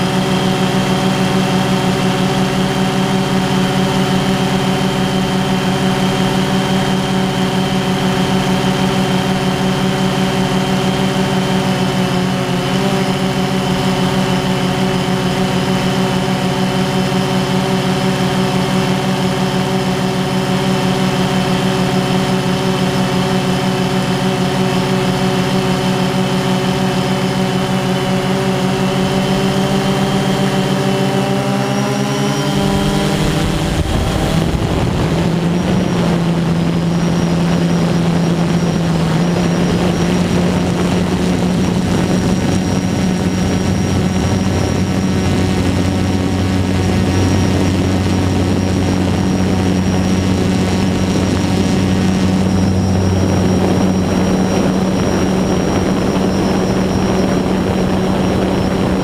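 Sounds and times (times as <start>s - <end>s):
quadcopter propellers buzzing: 0.0s - 59.0s.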